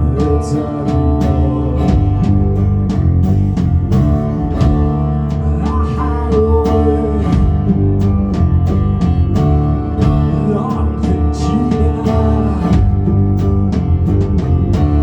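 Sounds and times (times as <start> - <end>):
live band droning chords: 0.0 - 15.0.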